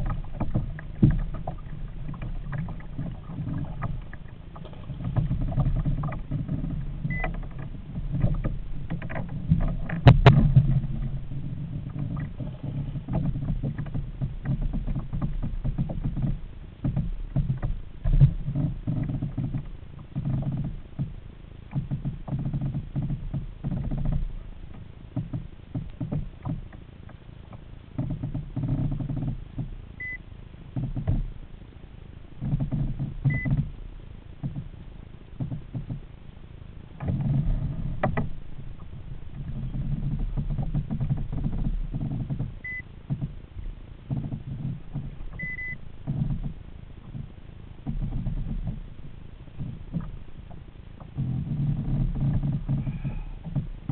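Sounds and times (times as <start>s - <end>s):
kayak hull knocks and rattles: 0.0s - 53.9s.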